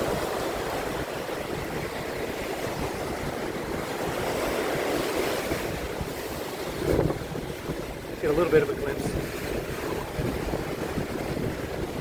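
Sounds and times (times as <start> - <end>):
surf breaking on rocks: 0.0 - 12.0
wind buffeting microphone: 0.0 - 12.0.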